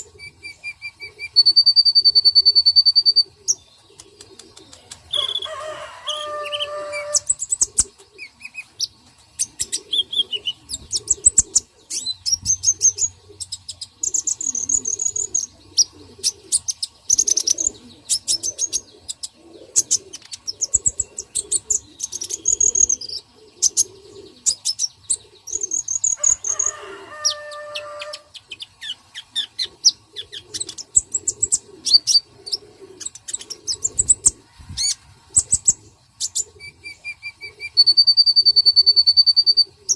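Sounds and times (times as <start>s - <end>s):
birds chirping: 0.0s - 39.9s
low cooing bird calls: 0.0s - 39.9s.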